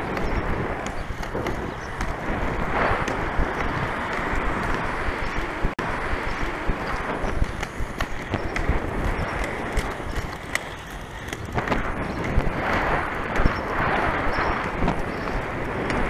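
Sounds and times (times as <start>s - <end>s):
inline skate wheels rolling on concrete: 0.0s - 16.0s
wheels clicking over slab joints: 0.0s - 16.0s.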